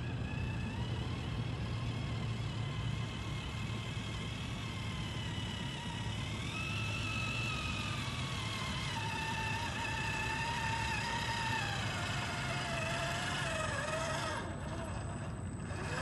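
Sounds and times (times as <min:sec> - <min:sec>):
electric motor whining: 0:00.0 - 0:16.0
low engine drone: 0:00.0 - 0:16.0.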